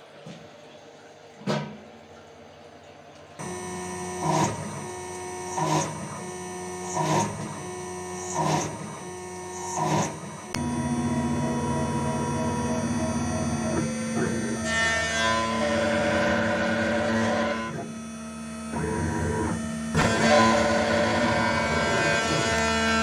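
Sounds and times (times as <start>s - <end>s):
harsh metal cutting bursts: 3.4s - 23.0s
milling spindle hum: 3.4s - 23.0s.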